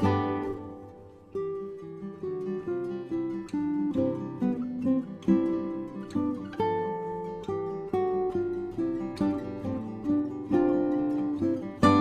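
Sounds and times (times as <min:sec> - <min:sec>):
plucked classical guitar: 0:00.0 - 0:12.0.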